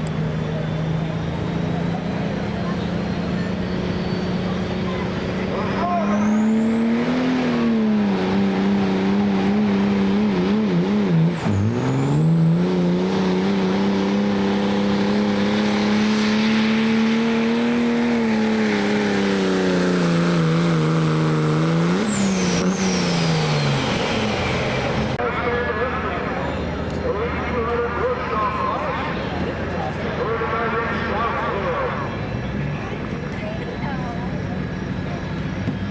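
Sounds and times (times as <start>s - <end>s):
diesel truck engine under load: 0.0s - 35.9s.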